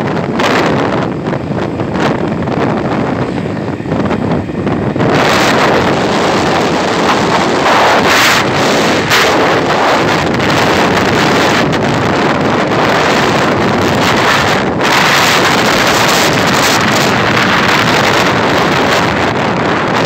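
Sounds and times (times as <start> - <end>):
motorcycle engine and road noise: 0.0 - 20.0
wind rushing over microphone: 0.0 - 20.0.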